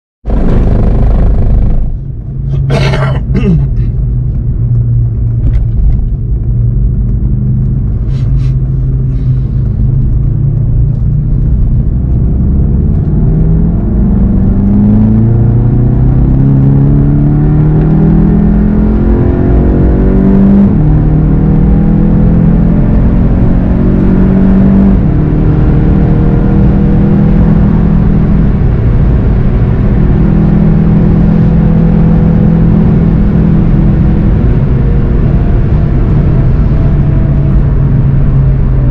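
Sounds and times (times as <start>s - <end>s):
car engine accelerating: 0.2s - 38.9s
road and wind noise: 0.2s - 38.9s.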